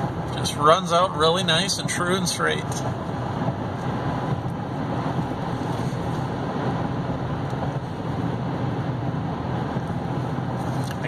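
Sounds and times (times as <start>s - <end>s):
engine low drone: 0.0s - 11.0s
road and tyre noise: 0.0s - 11.0s.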